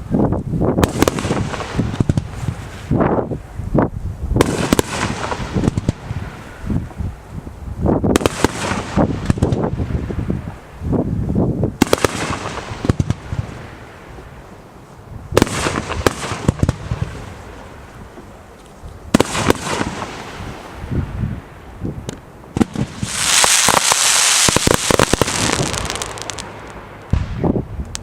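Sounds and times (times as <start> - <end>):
fireworks bangs and crackling: 0.7 - 3.4, 4.3 - 7.1, 7.8 - 10.8, 11.7 - 14.4, 15.3 - 18.3, 19.1 - 28.0
fireworks rumbling: 0.7 - 14.6, 15.2 - 28.0.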